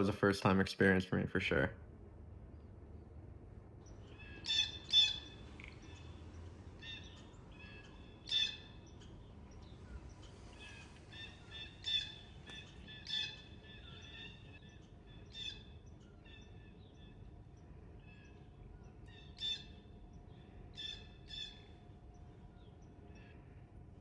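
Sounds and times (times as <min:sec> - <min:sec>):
faint steady background: 0:00.0 - 0:24.0
harsh bird chirping calls: 0:03.8 - 0:24.0.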